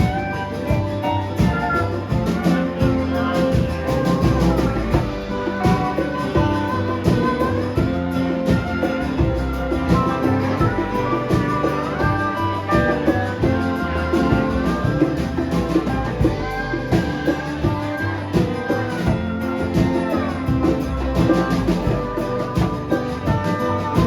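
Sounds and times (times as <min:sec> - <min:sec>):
guitar: 0:00.0 - 0:24.0
live band playing: 0:00.0 - 0:24.0.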